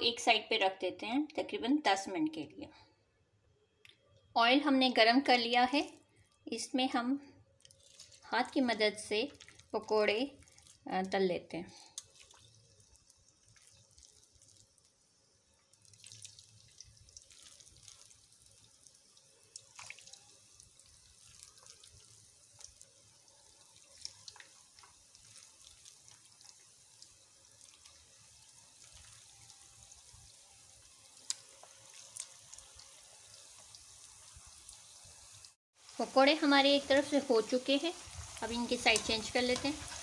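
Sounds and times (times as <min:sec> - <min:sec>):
deep-frying sizzle with crackles: 0:04.6 - 0:40.0.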